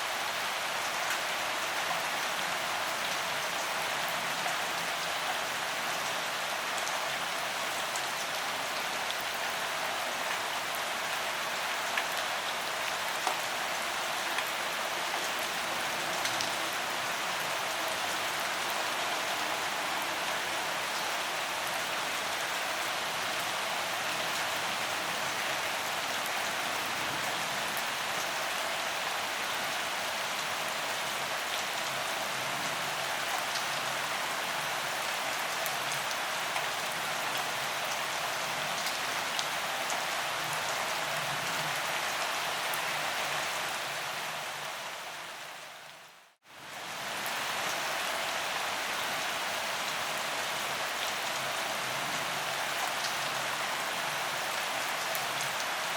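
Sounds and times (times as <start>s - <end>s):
gentle rain hiss: 0.0s - 55.9s.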